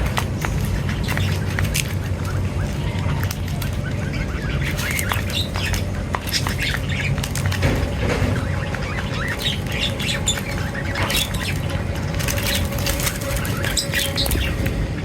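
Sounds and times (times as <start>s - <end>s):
wing flutters and clicks: 0.0s - 14.9s
low hum: 0.0s - 15.0s
small birds chirping: 0.0s - 15.0s.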